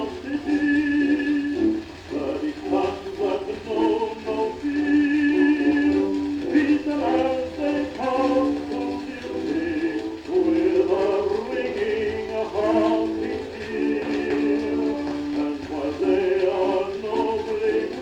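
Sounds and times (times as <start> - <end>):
musical accompaniment: 0.0 - 18.0
tenor singing on gramophone record: 0.0 - 18.0.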